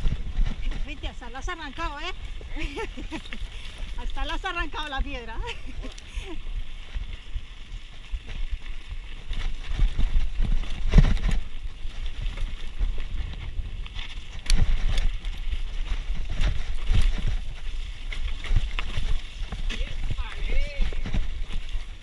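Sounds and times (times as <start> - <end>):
bike rattling: 0.0 - 22.0
tyres crunching over stones: 0.0 - 22.0
wind rumbling on microphone: 0.0 - 22.0.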